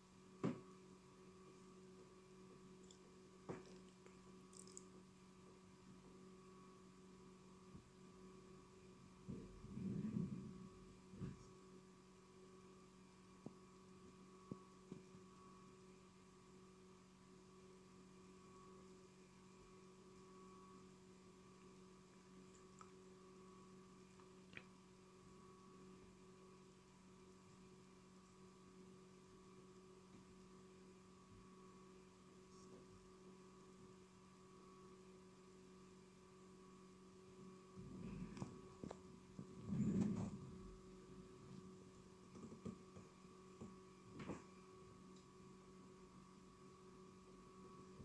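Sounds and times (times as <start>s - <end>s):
faint electrical hum: 0.0s - 48.0s.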